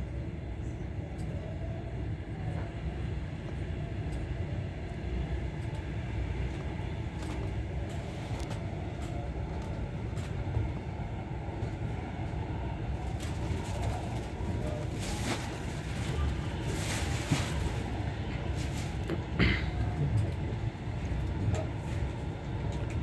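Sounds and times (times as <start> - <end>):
train rumble inside carriage: 0.0 - 23.0.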